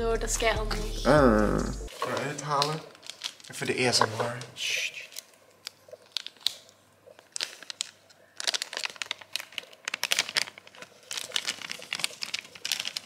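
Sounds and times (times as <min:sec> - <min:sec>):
plastic bag crinkling: 0:01.9 - 0:13.0.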